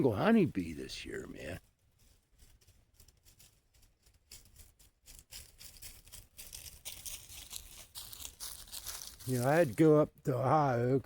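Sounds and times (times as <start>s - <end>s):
faint rustling and crackling: 0.0s - 10.0s.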